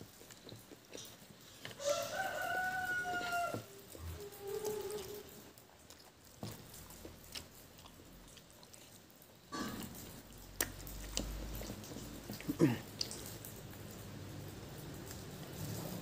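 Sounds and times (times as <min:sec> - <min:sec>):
wet chewing and mouth clicks: 0:00.0 - 0:16.0.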